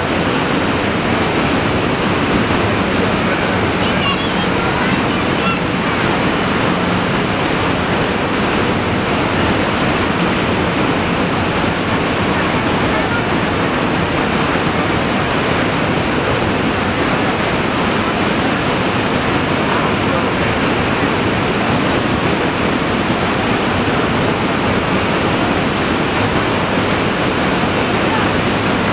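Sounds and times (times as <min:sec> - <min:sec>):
waterfall crashing onto rocks: 0:00.0 - 0:28.9.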